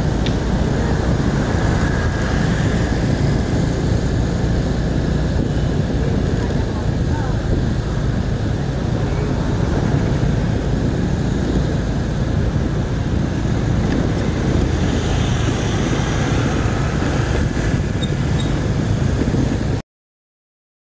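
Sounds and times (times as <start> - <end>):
traffic rumble: 0.0 - 19.8.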